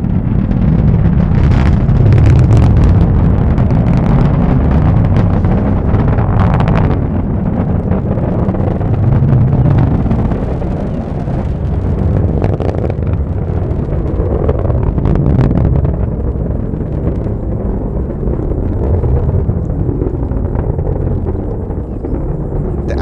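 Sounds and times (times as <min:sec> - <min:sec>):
rocket engine roar: 0:00.0 - 0:23.0
sharp crackles: 0:00.0 - 0:23.0.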